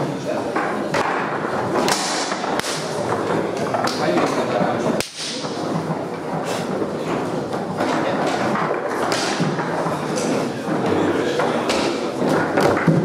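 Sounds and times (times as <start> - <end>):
foosball rods and ball knocking: 0.0 - 13.0.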